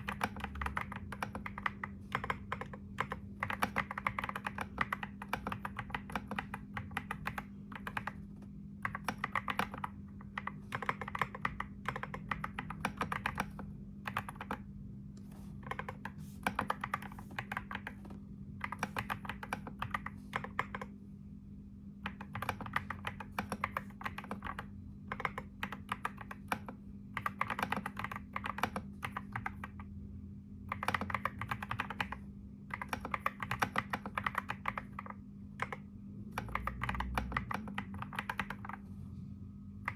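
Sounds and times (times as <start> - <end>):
keyboard typing clicks: 0.0 - 14.7, 15.3 - 20.9, 22.0 - 29.9, 30.7 - 38.9
steady low hum: 0.0 - 39.9.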